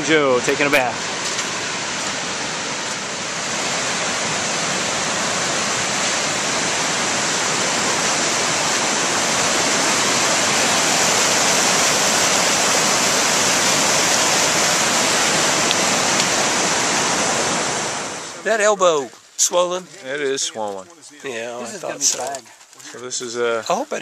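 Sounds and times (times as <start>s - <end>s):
whitewater rushing: 0.0s - 22.4s.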